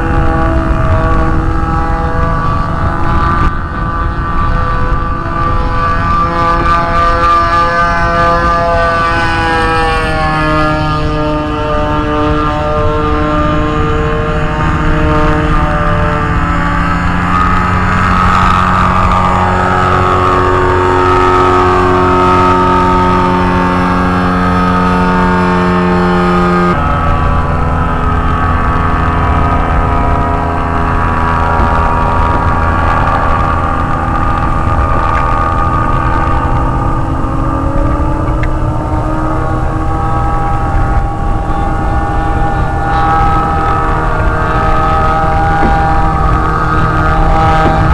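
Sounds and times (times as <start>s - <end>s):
two-stroke engine droning: 0.0s - 47.9s.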